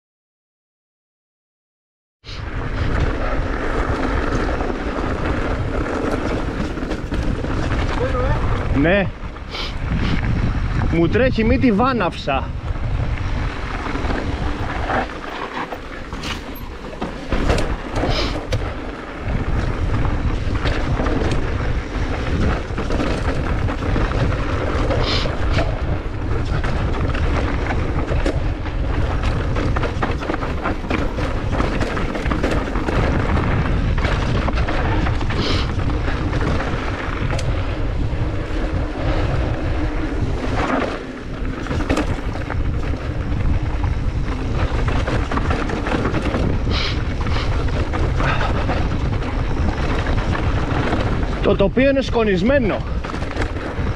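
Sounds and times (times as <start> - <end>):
bike rattling over bumps: 2.4 - 53.9
wind buffeting microphone: 2.4 - 53.9
tyres rolling over gravel: 2.5 - 9.4, 10.3 - 53.9.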